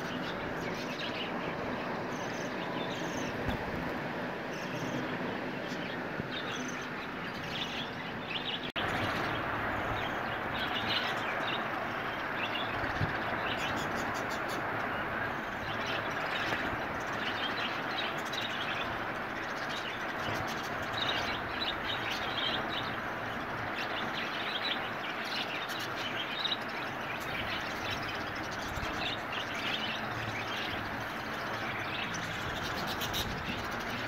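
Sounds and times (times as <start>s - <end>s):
budgerigars chattering and chirping: 4.5s - 34.0s.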